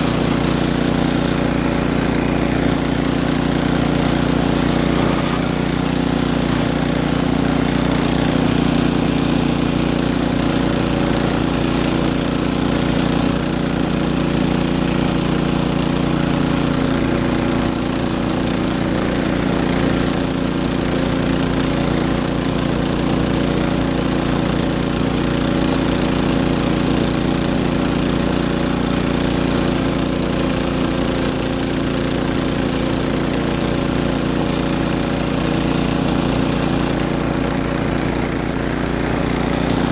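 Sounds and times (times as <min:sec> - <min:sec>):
snow blower engine running: 0:00.0 - 0:39.9.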